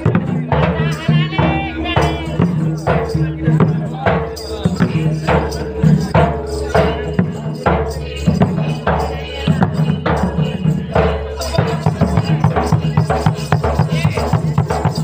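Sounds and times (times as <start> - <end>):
barrel drum beaten rhythmically: 0.0 - 15.0.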